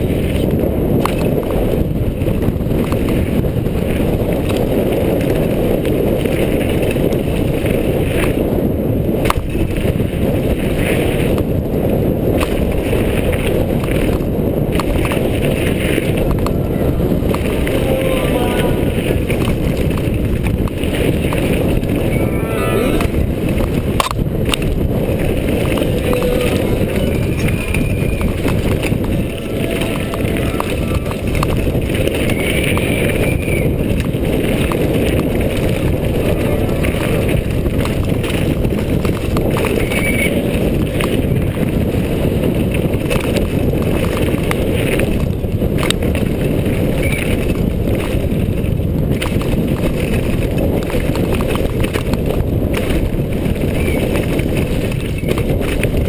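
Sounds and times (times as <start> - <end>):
bike rattling and knocking: 0.0 - 56.0
tyres rumbling on loose ground: 0.0 - 56.0.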